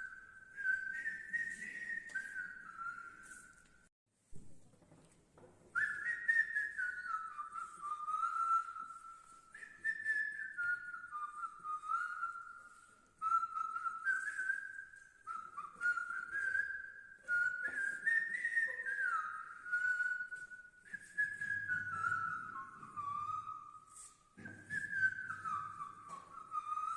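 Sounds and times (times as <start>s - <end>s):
man whistling a melody: 0.0s - 3.9s, 5.7s - 26.9s.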